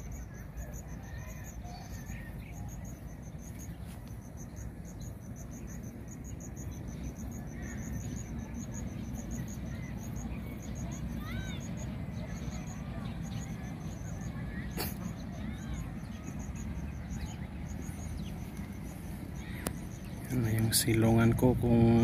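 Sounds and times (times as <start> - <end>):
faint bird chirps: 0.0 - 22.0
insects chirping: 0.0 - 22.0
steady low rumble: 0.0 - 22.0.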